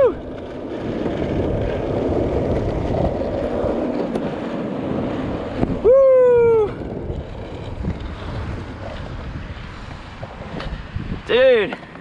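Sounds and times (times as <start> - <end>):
skateboard wheels rolling on asphalt: 0.0 - 12.0
wind buffeting microphone: 0.0 - 12.0.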